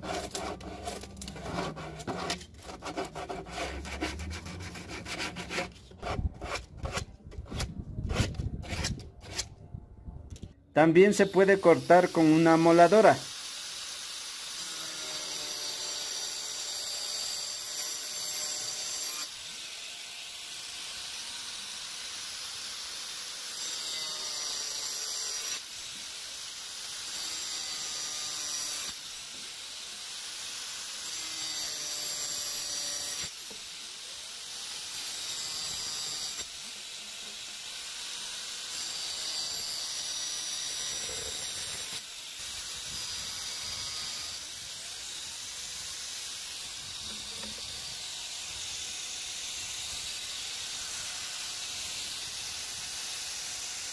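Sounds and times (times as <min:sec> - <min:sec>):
angle grinder cutting pipe: 0:00.0 - 0:09.5, 0:11.1 - 0:53.9.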